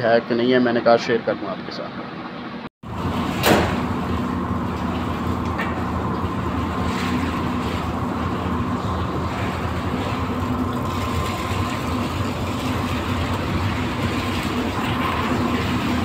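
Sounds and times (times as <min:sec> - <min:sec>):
machinery hum with constant tones: 0:00.0 - 0:16.0.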